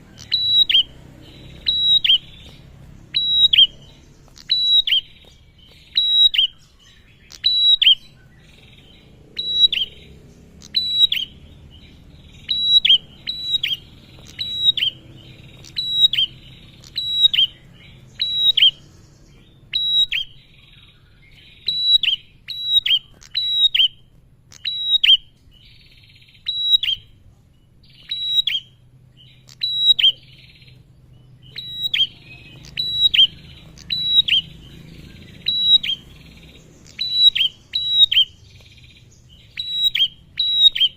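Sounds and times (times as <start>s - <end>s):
bird chirping: 0.0s - 40.9s
buzzy bird trills: 0.0s - 40.9s.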